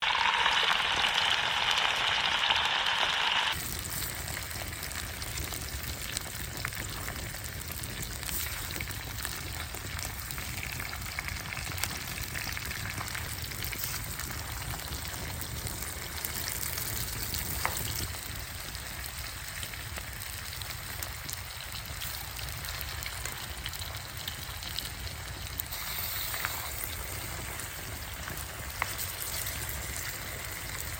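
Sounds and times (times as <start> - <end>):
food sizzling over a campfire: 0.0 - 30.9.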